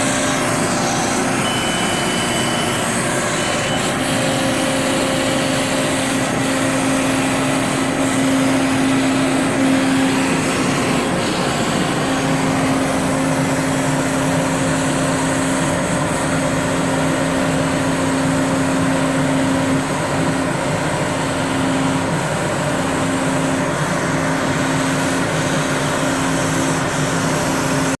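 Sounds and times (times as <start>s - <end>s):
router spindle humming: 0.0s - 27.9s.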